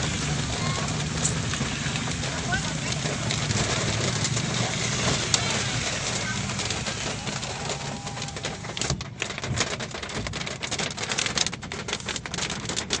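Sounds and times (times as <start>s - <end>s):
low rumble of car: 0.0s - 13.0s
rain pattering on car roof: 0.0s - 13.0s.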